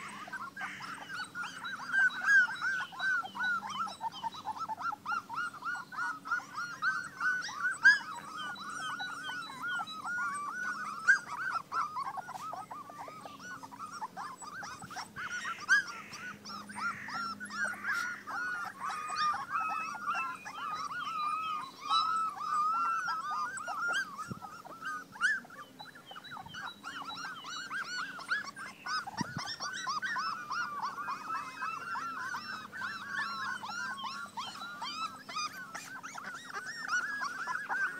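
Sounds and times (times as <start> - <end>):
puppies whining and squeaking: 0.0 - 37.9.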